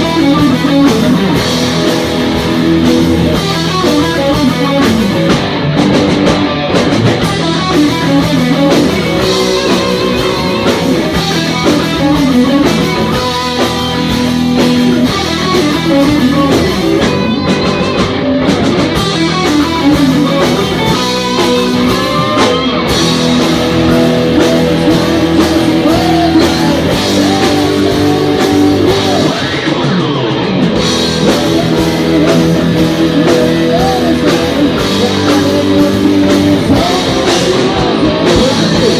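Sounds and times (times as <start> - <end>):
heavy metal band playing live: 0.0 - 38.9.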